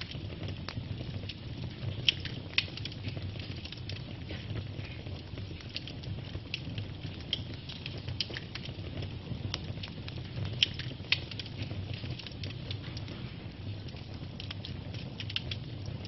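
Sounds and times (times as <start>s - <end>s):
fire crackling: 0.0s - 16.0s
fire popping and snapping: 0.0s - 16.0s
low rumble of flames: 0.0s - 16.0s.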